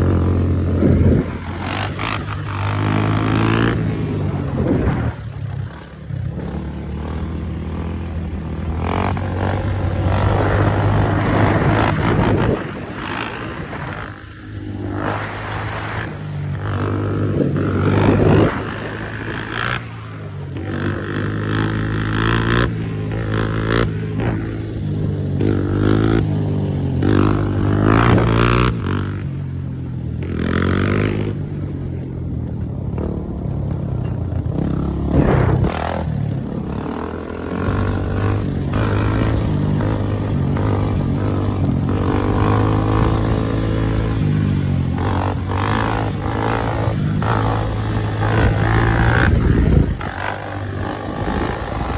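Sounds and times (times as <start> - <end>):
dirt bike engine revving: 0.0 - 29.3, 30.2 - 31.7, 32.9 - 51.9.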